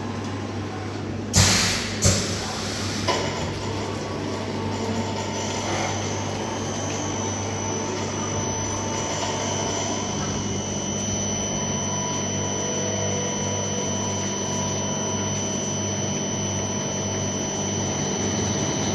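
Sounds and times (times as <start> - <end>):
milling machine humming and whining: 0.0 - 18.9.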